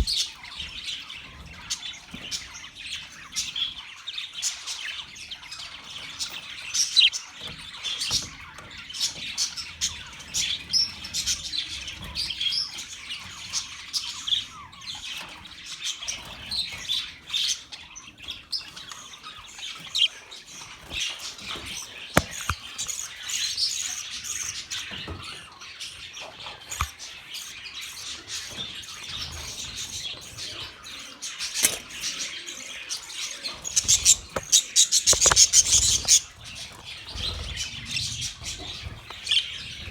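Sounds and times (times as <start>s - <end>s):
budgerigars chattering: 4.4s - 15.2s, 16.9s - 39.9s.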